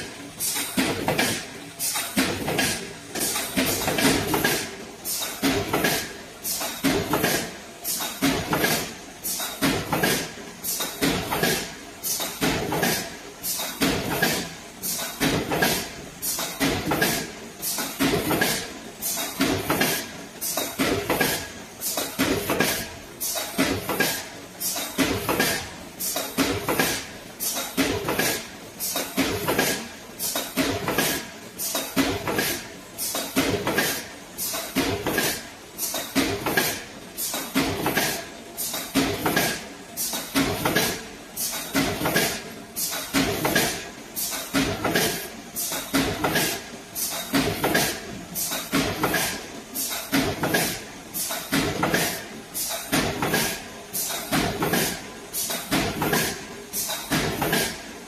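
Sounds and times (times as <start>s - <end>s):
punch press rhythmic clatter: 0.0s - 58.0s.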